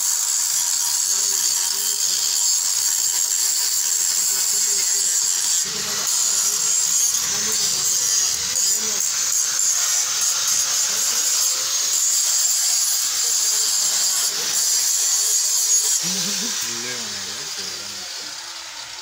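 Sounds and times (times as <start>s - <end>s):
angle grinder cutting metal: 0.0s - 19.0s.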